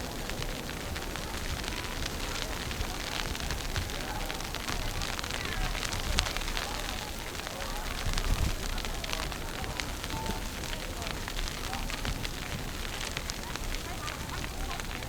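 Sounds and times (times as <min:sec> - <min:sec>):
crackle with scattered clicks: 0:00.0 - 0:15.0
wind buffeting microphone: 0:00.0 - 0:15.0.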